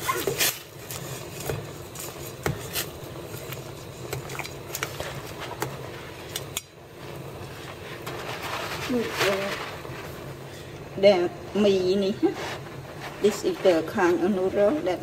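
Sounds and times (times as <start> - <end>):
water boiling in pot: 0.0 - 15.0.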